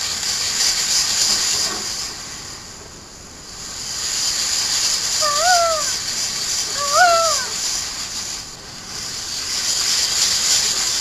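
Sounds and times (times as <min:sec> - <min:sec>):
ocean waves rushing hiss: 0:00.0 - 0:11.0.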